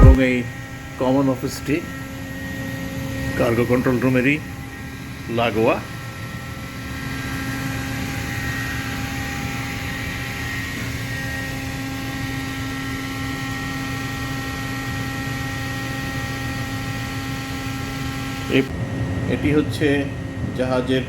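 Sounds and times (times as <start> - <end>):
ship ventilation and machinery hum: 0.0 - 21.0.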